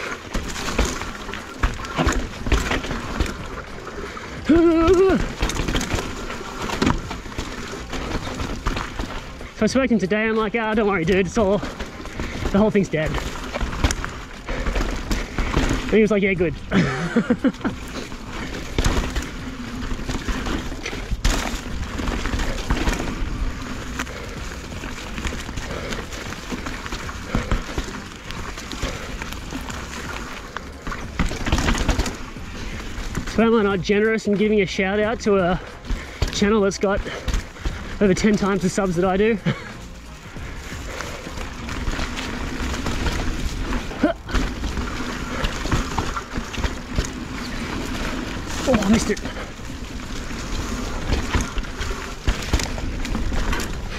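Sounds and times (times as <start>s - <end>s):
bike rattling and knocking: 0.0s - 53.9s
tyres rolling over dirt: 0.0s - 53.9s.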